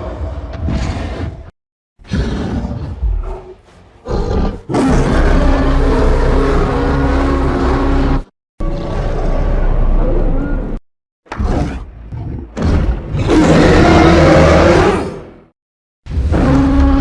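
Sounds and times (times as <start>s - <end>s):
giant ape growls and roar: 0.0s - 15.5s, 16.1s - 17.0s.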